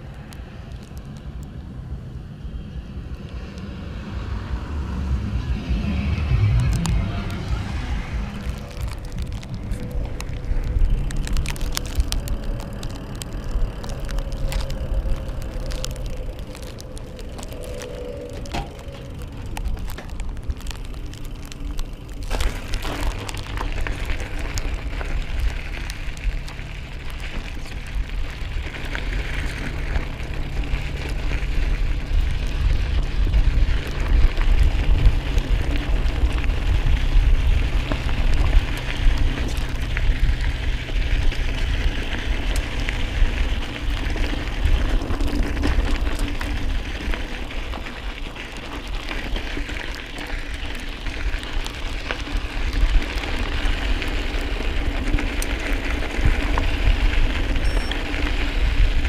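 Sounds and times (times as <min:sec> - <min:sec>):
bike rattling and clicking: 0:00.0 - 0:04.2, 0:05.0 - 0:59.0
bike tyres crunching on gravel: 0:00.0 - 0:59.0
low wind rumble: 0:00.0 - 0:59.0.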